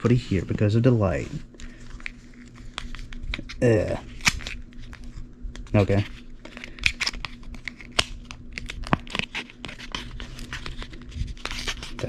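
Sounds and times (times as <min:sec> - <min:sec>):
packaging torn open and crinkled: 0:02.0 - 0:12.0.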